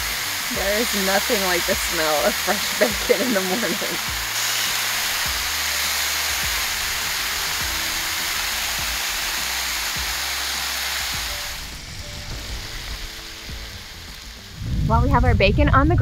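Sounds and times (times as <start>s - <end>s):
bacon sizzling on a griddle: 0.0s - 14.6s.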